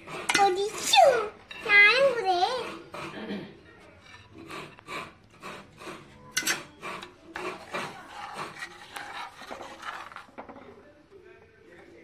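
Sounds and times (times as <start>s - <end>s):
spoon scraping clay pot: 0.0s - 10.6s.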